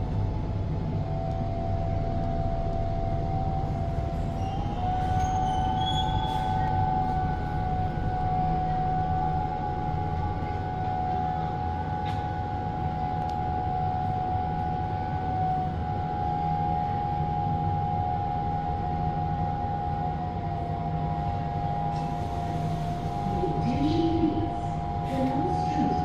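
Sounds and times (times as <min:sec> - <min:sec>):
metro train high whine: 0:00.0 - 0:26.0.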